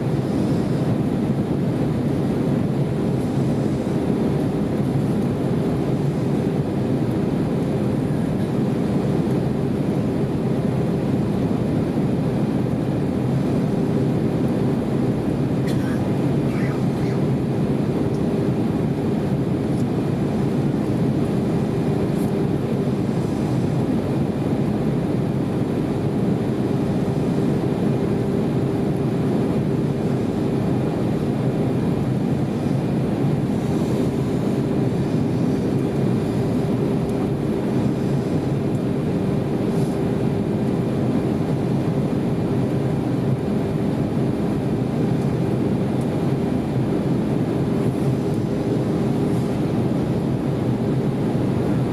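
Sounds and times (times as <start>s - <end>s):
airplane cabin noise: 0.0s - 51.9s
steady hum: 0.0s - 51.9s.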